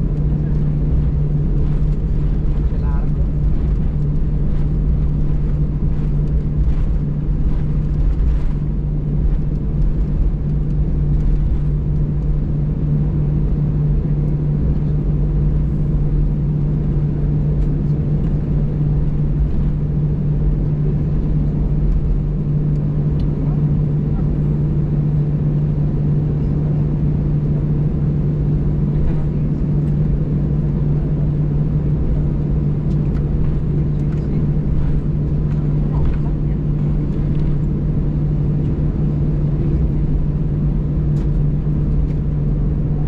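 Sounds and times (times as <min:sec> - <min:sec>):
airplane cabin engine hum: 0:00.0 - 0:43.0.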